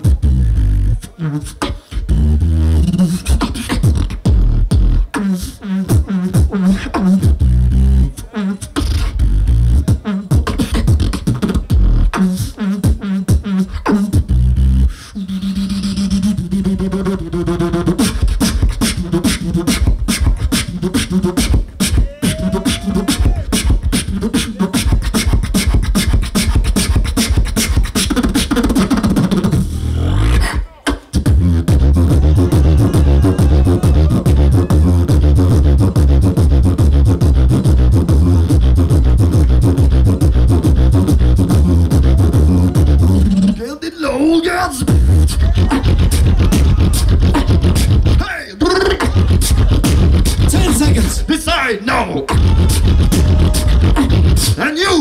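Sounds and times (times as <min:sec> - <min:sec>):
beatboxing into microphone: 0:00.0 - 0:55.0.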